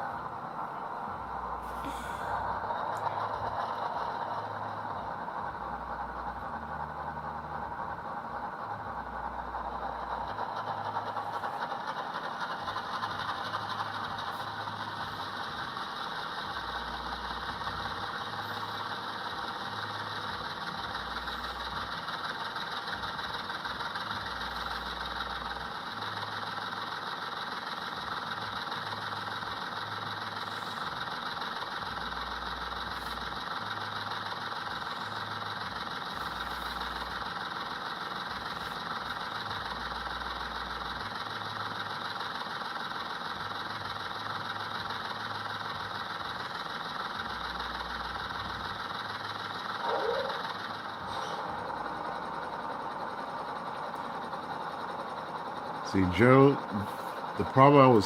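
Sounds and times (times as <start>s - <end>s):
model locomotive diesel engine sound: 0.0s - 58.0s.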